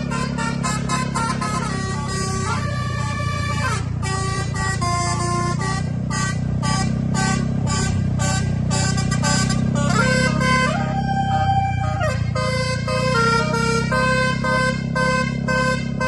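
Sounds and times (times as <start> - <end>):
multi-tone bus air horn melody: 0.0 - 16.0.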